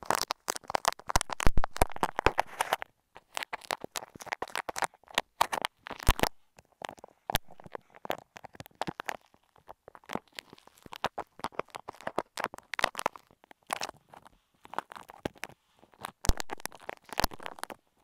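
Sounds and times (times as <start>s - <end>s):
sticky clay clicks and crackles: 0.0s - 18.0s.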